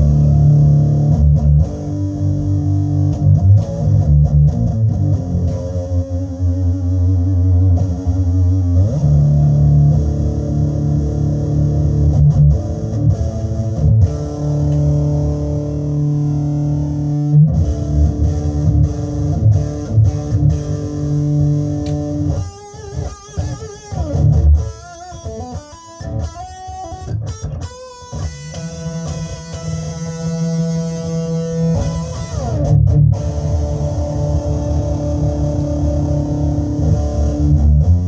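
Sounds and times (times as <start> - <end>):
electric guitar lead line: 0.0 - 38.0
overdriven electric guitar chords: 0.0 - 38.0.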